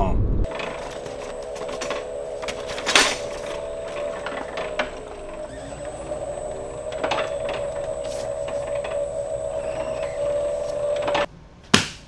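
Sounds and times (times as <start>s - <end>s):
printing press motor hum: 0.5s - 11.3s.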